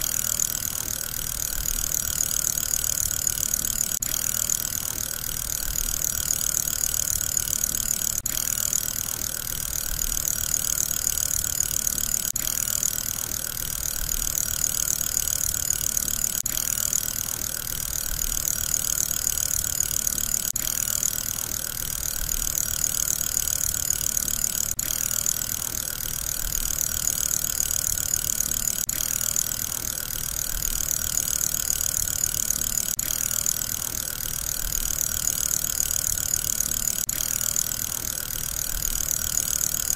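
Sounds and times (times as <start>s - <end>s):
fidget spinner whirring: 0.0s - 39.9s.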